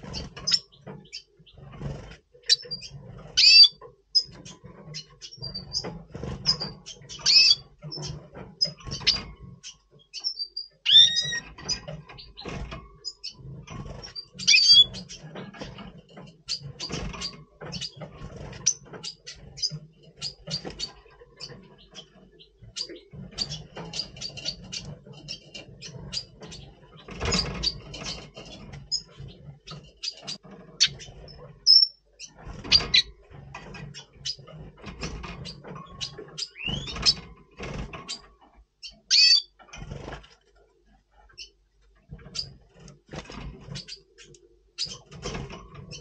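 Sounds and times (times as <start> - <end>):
bird chirping: 0.0 - 1.7, 2.4 - 15.7, 16.3 - 33.2, 35.4 - 37.3, 38.1 - 39.6, 43.6 - 45.2
clicks and scratches in cage: 0.0 - 46.0.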